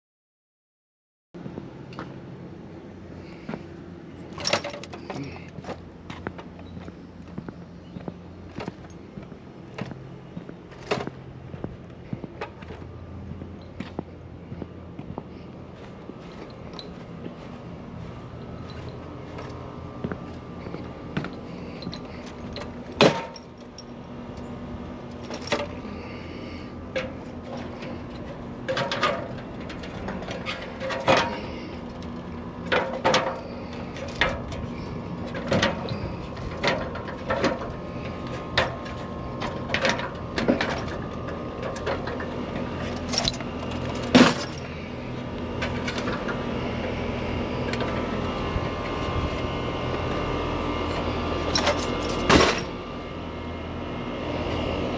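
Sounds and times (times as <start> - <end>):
steady mechanical hum: 1.4 - 54.9.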